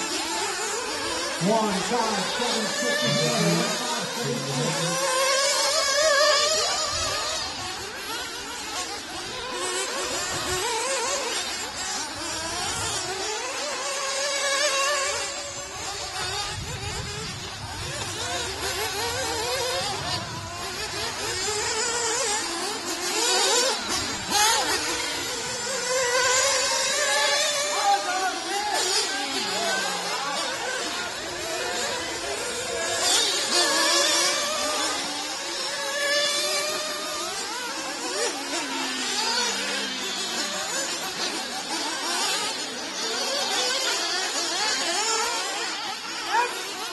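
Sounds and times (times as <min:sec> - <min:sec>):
small nitro engines buzzing: 0:00.0 - 0:46.9.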